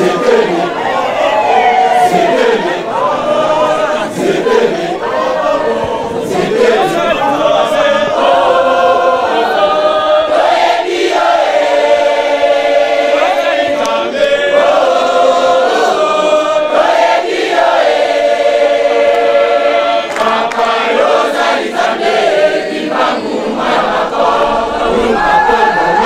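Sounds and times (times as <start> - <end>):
large choir singing: 0.0 - 26.0.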